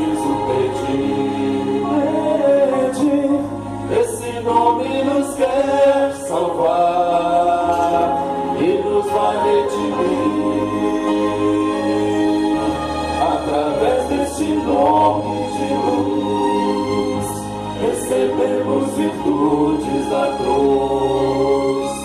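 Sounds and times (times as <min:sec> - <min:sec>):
group singing in harmony: 0:00.0 - 0:22.0
low steady accompaniment: 0:00.0 - 0:22.0.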